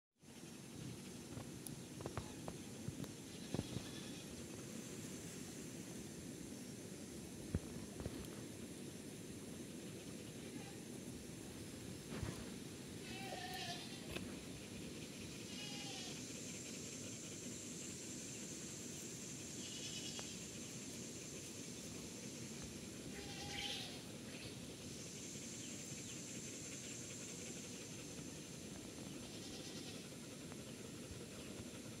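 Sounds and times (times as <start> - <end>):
low background noise: 0.2 - 32.0
high insect-like buzz: 0.3 - 31.7.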